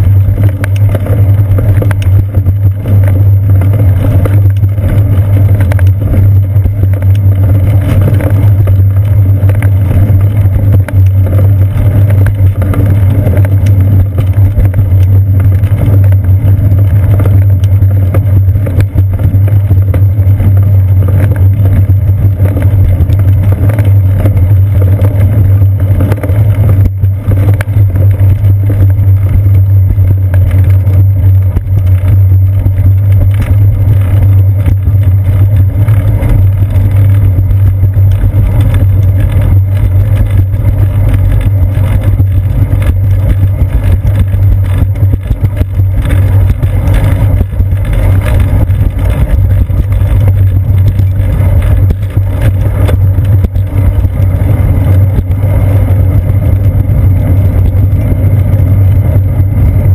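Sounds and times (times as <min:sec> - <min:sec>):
bicycle rolling over concrete: 0:00.0 - 0:59.9
wind: 0:00.0 - 0:59.9.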